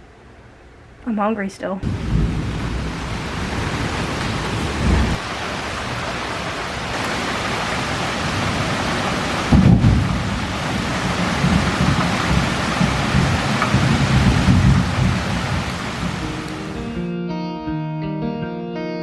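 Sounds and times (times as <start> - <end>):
hard rain falling: 1.8 - 17.1.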